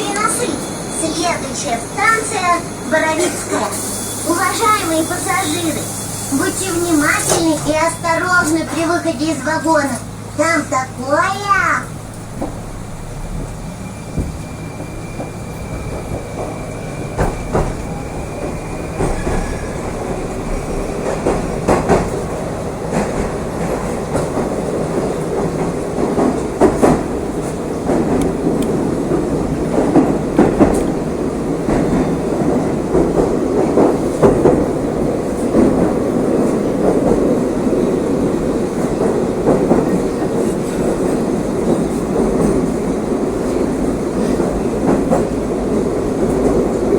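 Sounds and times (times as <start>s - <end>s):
wheels clattering over rail joints: 0.0s - 42.8s
train rumbling through tunnel: 0.0s - 46.9s.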